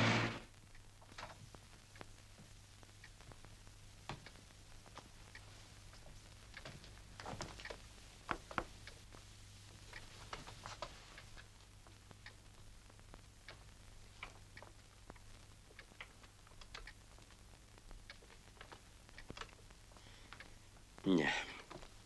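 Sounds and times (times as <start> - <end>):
soft clicks and rustles: 0.7 - 22.0.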